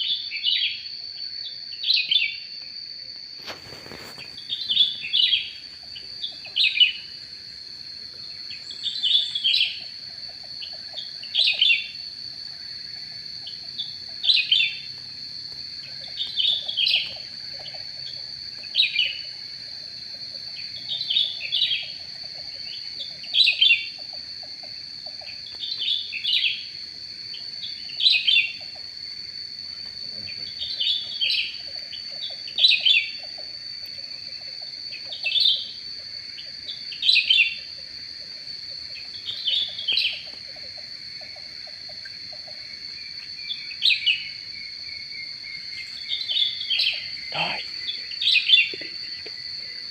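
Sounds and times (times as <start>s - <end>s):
steady high-pitched whine: 0.0s - 49.9s.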